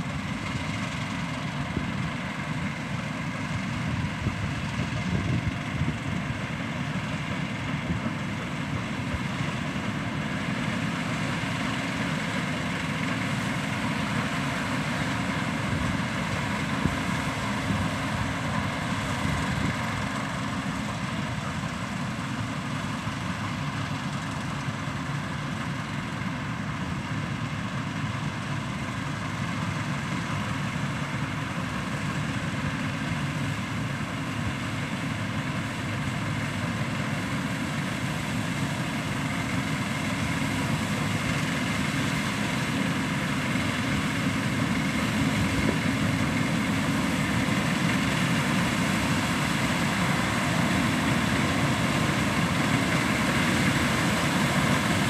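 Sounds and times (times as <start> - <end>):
combine harvester drone: 0.0 - 55.0
faint steady machine whines: 0.0 - 55.0.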